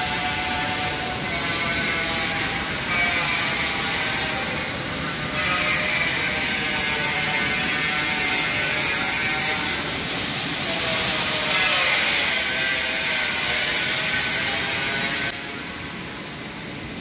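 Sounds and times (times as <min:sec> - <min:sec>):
steady mechanical noise: 0:00.0 - 0:17.0.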